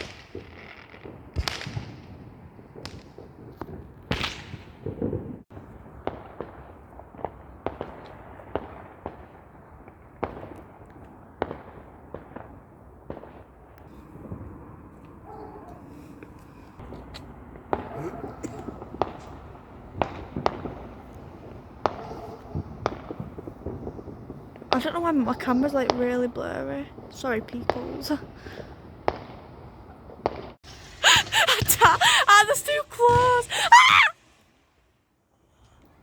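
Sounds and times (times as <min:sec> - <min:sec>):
fireworks bangs and crackles: 0:00.0 - 0:34.2.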